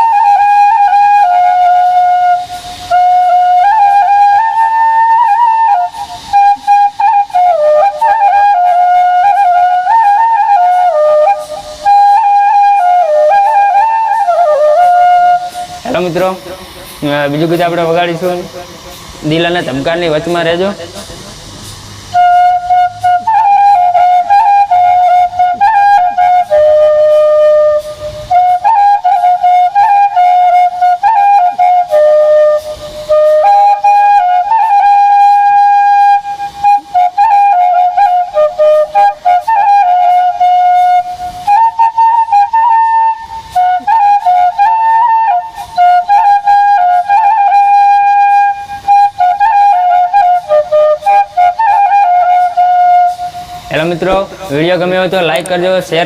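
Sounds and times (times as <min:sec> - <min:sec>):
bamboo flute melody: 0:00.0 - 0:56.0.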